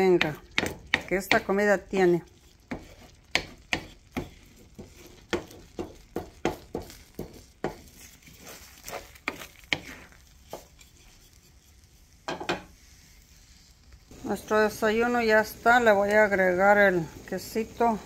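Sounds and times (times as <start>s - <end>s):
faint sizzle: 0.0s - 18.0s
wooden spoon scraping a pan: 0.0s - 18.0s.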